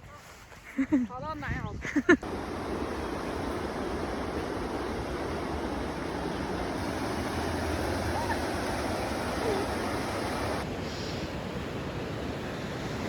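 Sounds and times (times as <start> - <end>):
ocean waves washing on shore: 2.2 - 13.0.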